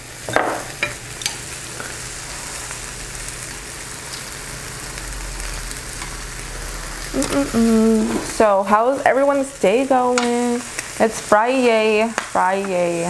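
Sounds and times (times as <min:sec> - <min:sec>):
meat and egg sizzling on grill: 0:00.0 - 0:13.0.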